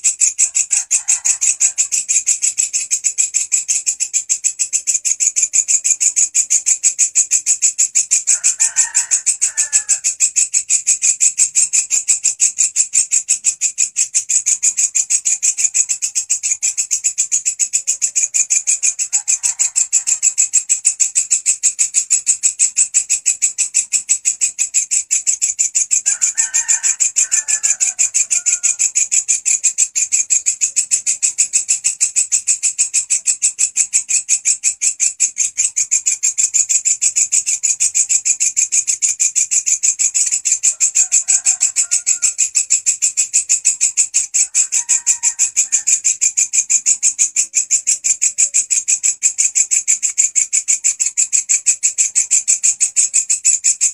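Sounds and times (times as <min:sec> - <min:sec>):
katydid buzzing: 0:00.0 - 0:53.9.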